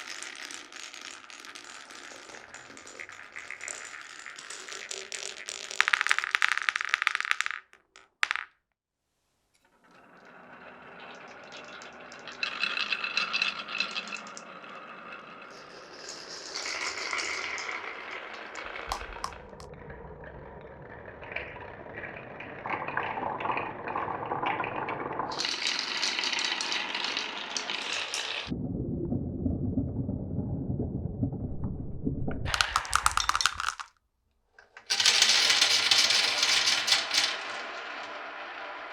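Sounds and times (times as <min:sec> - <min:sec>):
marbles rolling down marble run: 0:00.0 - 0:08.5, 0:09.8 - 0:28.5, 0:32.4 - 0:33.9, 0:34.8 - 0:38.9.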